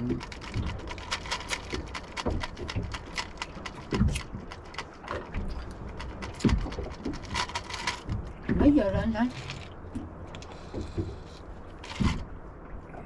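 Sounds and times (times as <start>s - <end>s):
rapid clicking and rattling: 0.0s - 9.7s, 10.4s - 12.2s.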